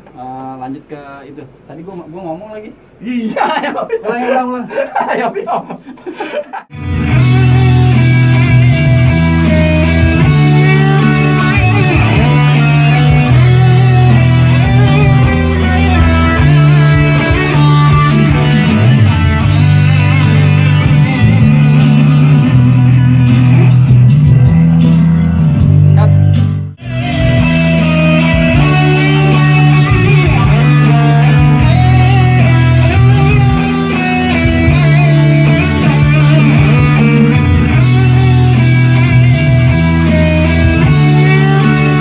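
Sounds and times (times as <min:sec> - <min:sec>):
backing track with bass notes: 0:06.6 - 0:42.0
electric guitar rock melody: 0:06.7 - 0:42.0.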